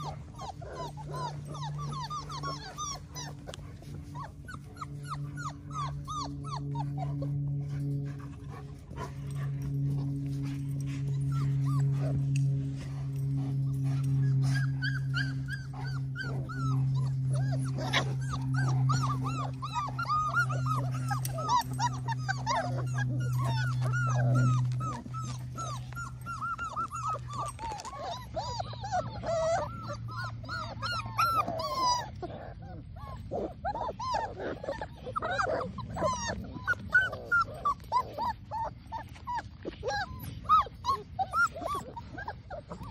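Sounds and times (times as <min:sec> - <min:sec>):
puppies whimpering and yipping: 0:00.0 - 0:42.9
steady low hum: 0:00.0 - 0:42.9.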